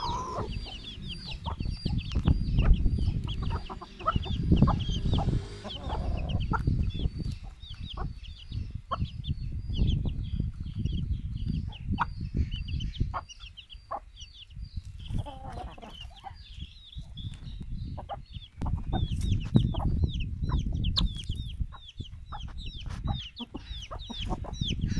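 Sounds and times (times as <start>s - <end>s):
chicken clucking: 0.0s - 24.9s
chicks peeping: 0.0s - 24.9s.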